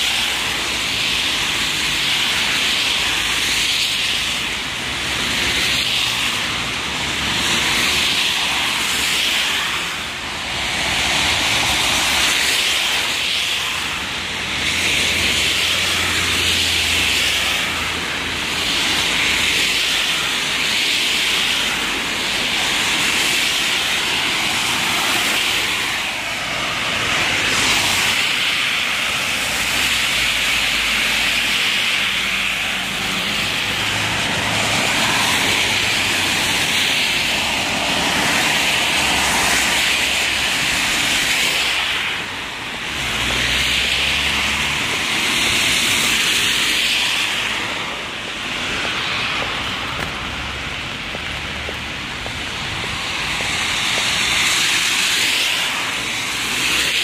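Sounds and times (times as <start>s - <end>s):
low traffic rumble: 0.0s - 57.0s
rain hiss: 0.0s - 57.0s
tyres on wet road: 0.0s - 57.0s.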